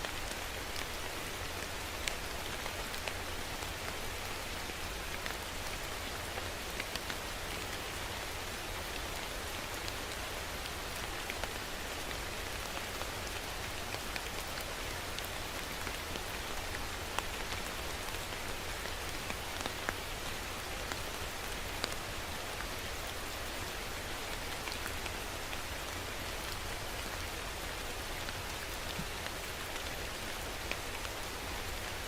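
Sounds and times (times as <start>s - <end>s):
raindrops ticking on surface: 0.0s - 32.0s
steady rain falling: 0.0s - 32.0s.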